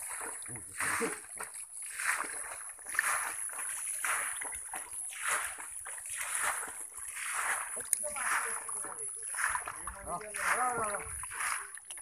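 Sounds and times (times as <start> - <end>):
fish thrashing and splashing in water: 0.0 - 12.0.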